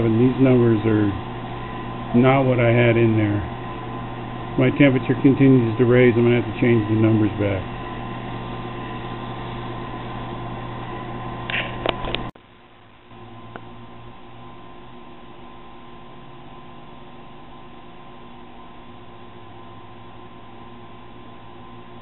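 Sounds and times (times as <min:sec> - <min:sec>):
low mains tone: 0:00.0 - 0:22.0
steady electrical hum: 0:00.0 - 0:22.0.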